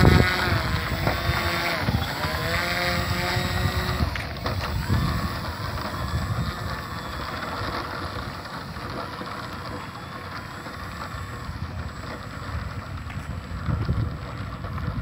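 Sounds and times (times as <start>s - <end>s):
electric motor and propeller whining: 0.0s - 15.0s
wind rumbling on microphone: 0.0s - 15.0s.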